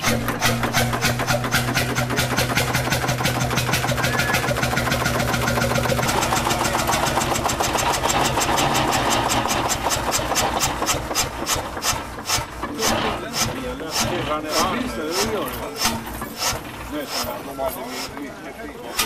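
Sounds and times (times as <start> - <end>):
engine knocking beat: 0.0 - 17.4.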